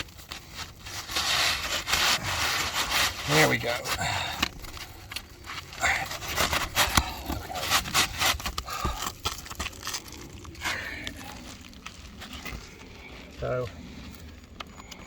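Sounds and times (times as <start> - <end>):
roof shingles scraping: 0.0 - 14.6.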